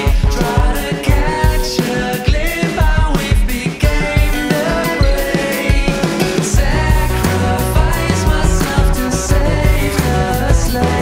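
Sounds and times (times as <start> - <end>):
song with band backing: 0.0 - 11.0.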